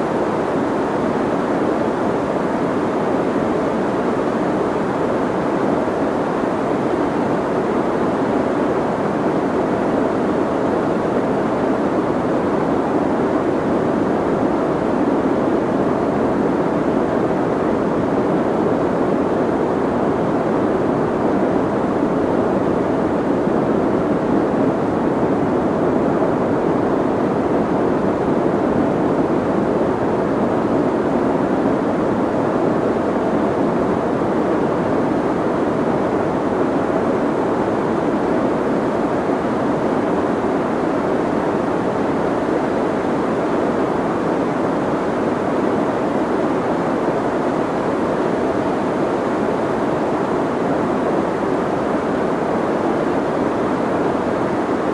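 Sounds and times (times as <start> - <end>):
soft white noise hiss: 0.0 - 54.9.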